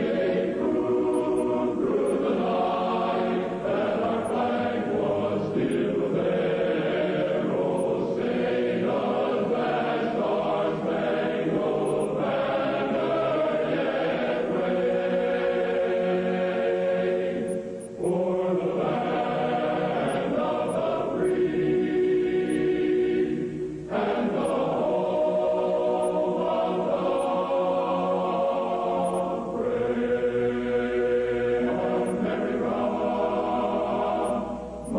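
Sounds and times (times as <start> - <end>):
choir singing sustained chords: 0.0 - 34.9.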